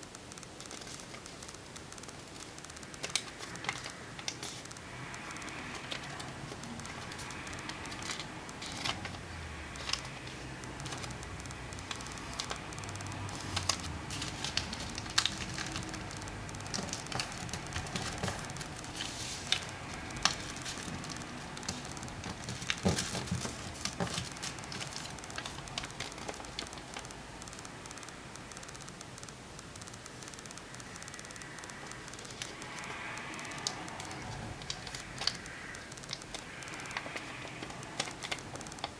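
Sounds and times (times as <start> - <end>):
steady hiss: 0.0 - 38.9
paper folding and crinkling: 0.6 - 27.2, 33.6 - 38.9.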